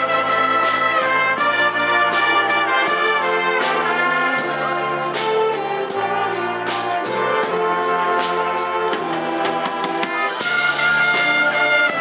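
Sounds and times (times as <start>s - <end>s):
brass chords and melody: 0.0s - 12.0s
percussion hits: 0.0s - 12.0s.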